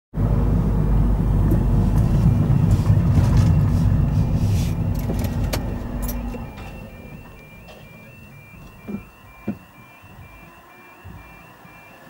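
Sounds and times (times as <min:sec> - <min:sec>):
car engine and road rumble: 0:00.1 - 0:12.0
two-tone level crossing alarm: 0:02.1 - 0:12.0.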